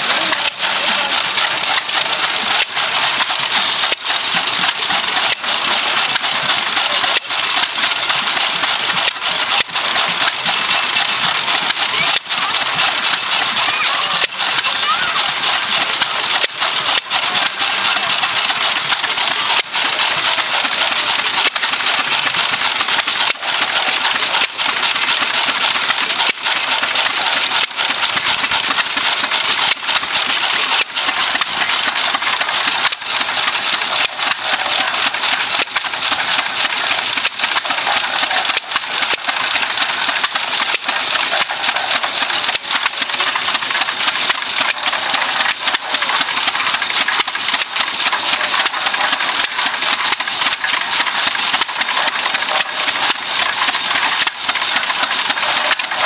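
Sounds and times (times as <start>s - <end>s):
stationary engines clattering: 0.0s - 56.0s.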